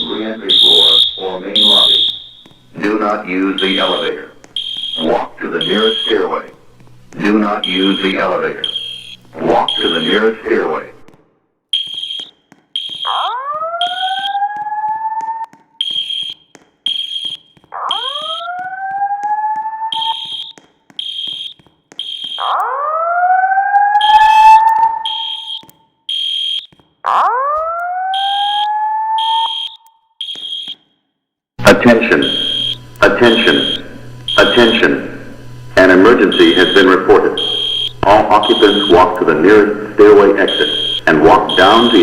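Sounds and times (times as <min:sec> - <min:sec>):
high-pitched alarm beeping: 0:00.0 - 0:06.6, 0:07.4 - 0:10.5, 0:11.7 - 0:23.0, 0:23.7 - 0:27.3, 0:28.1 - 0:30.8, 0:31.6 - 0:42.0.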